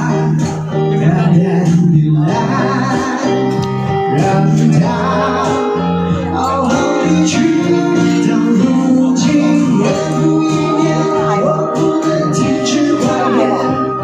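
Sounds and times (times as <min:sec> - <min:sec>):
guitar accompaniment: 0:00.0 - 0:14.0
person singing: 0:00.0 - 0:14.0.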